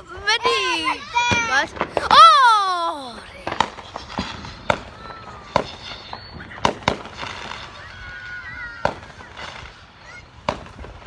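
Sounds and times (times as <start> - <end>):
fireworks bangs and pops: 0.2 - 11.0.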